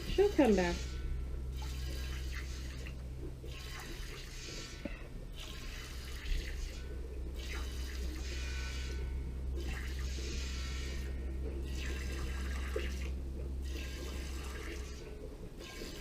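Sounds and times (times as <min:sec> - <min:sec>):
rhythmic watery milking hiss: 0:00.0 - 0:16.0
steady low hum: 0:00.0 - 0:16.0.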